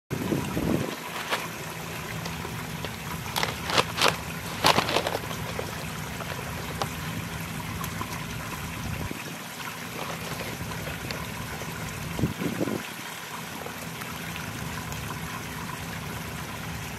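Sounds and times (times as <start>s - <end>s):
water splashing into a pond: 0.1s - 16.9s.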